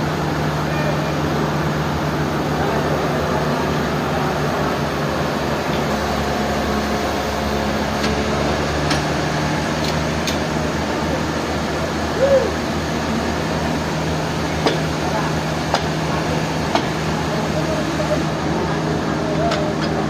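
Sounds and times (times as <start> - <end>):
sawmill machinery humming: 0.0 - 20.0.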